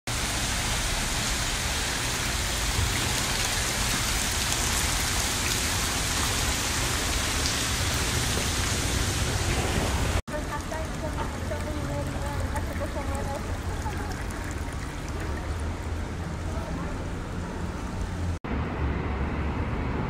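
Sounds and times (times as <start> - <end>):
water splashing on paving: 0.1 - 18.4.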